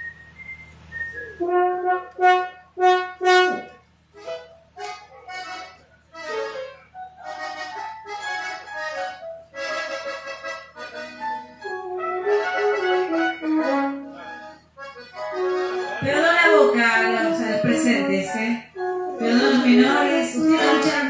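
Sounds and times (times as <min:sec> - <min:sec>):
live band with accordion: 0:02.3 - 0:21.0.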